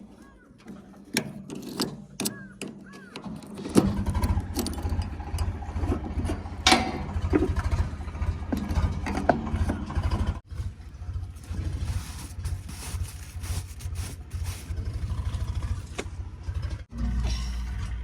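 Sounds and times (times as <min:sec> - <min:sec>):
diesel engine chugging: 0:02.3 - 0:18.0.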